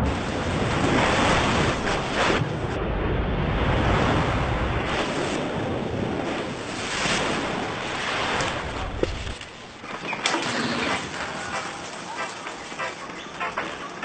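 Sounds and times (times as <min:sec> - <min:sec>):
rushing water like surf: 0:00.0 - 0:14.0.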